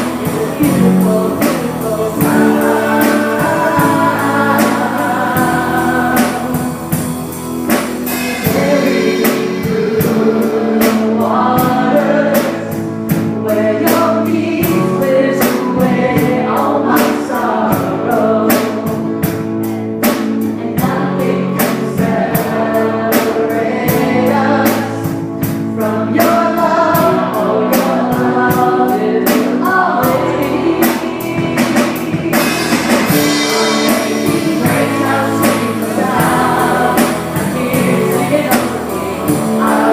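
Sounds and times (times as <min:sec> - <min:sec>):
band playing: 0:00.0 - 0:39.9
group of singers: 0:00.0 - 0:39.9
steady drum beat: 0:00.0 - 0:39.9.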